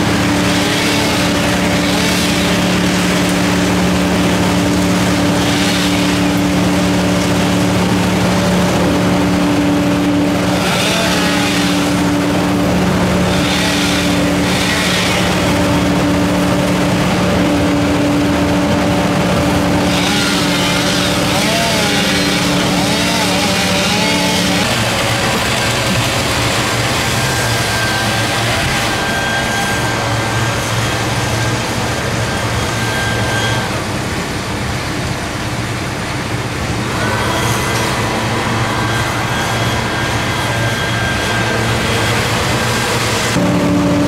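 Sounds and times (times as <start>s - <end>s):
engine running at high speed: 0.0s - 44.0s.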